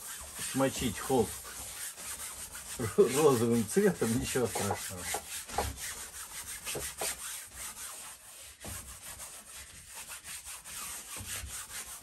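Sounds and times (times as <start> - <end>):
paintbrush scrubbing on canvas: 0.0 - 12.0.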